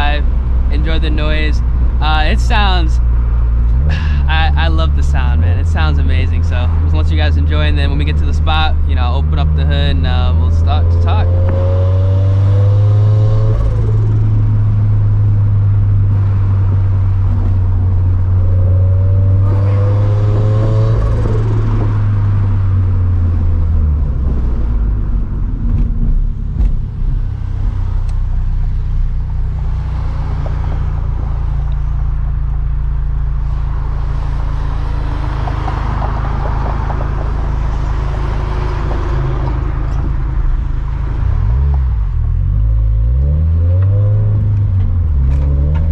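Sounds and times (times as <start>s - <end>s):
car engine drone: 0.0s - 45.9s.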